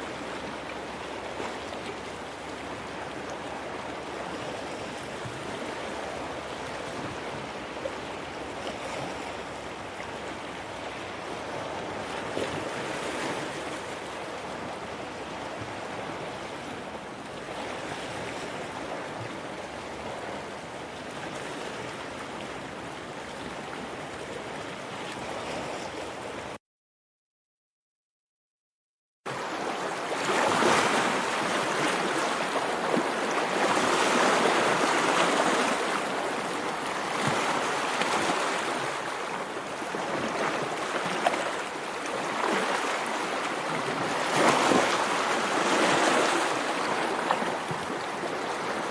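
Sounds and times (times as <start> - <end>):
rushing water: 0.0 - 26.6, 29.3 - 48.9.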